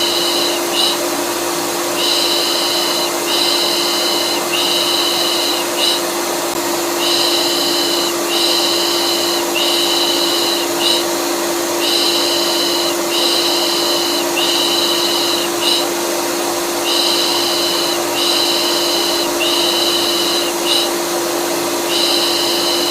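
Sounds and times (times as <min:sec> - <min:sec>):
vacuum cleaner humming: 0:00.0 - 0:22.9.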